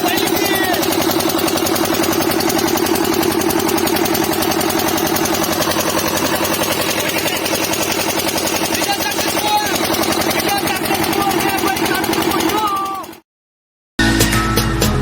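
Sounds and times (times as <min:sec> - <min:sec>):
motor boat engine chugging: 0:00.0 - 0:13.2.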